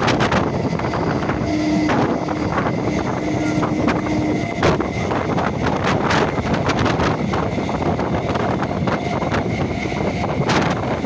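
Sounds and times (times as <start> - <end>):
moving electric train: 0.0 - 11.0
wind buffeting microphone: 0.0 - 11.0.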